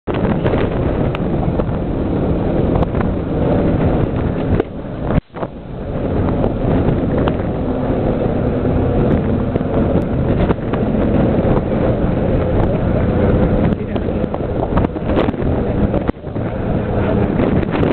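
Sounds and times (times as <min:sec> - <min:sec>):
wind buffeting microphone: 0:00.0 - 0:17.9
propeller plane engines droning: 0:00.1 - 0:17.9.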